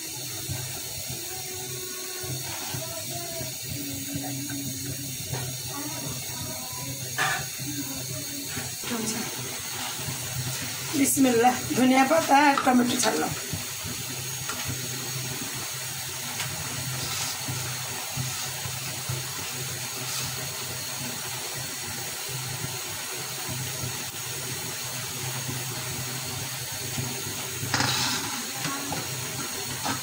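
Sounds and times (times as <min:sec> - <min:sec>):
vegetables sizzling: 0:00.0 - 0:30.0.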